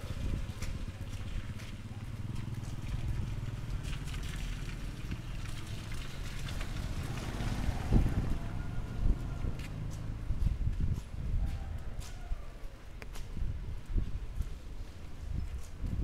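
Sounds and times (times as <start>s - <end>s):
traffic engine rumble: 0.0s - 16.0s.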